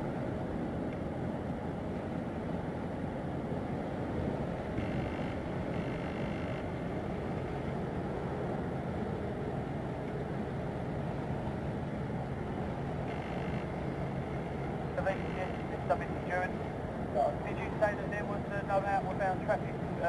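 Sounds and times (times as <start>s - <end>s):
low rumble of diesel engines: 0.0s - 20.0s.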